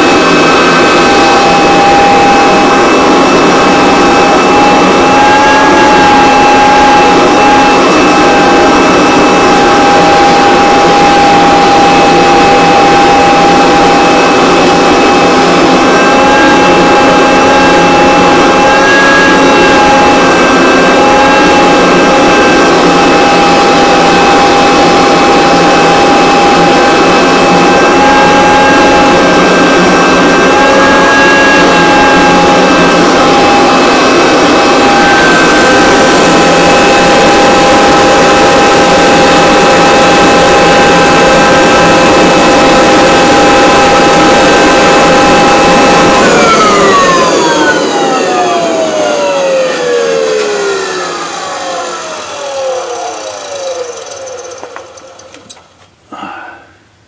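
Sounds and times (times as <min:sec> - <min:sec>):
vacuum cleaner motor whining: 0:00.0 - 0:56.6.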